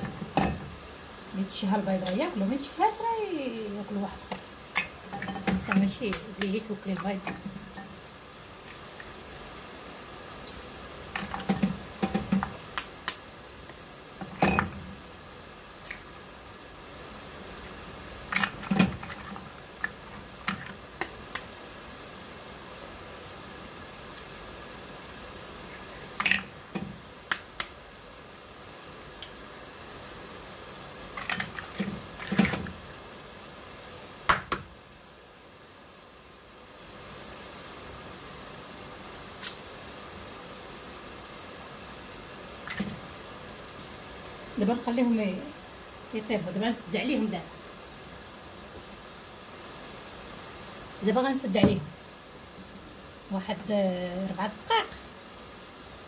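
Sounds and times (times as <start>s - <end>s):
bubbling sauce hissing: 0.0s - 56.0s.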